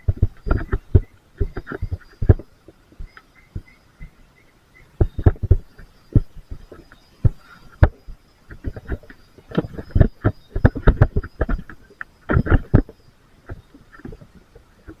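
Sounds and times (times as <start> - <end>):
dull thumps and knocks: 0.0 - 4.2, 5.0 - 14.3.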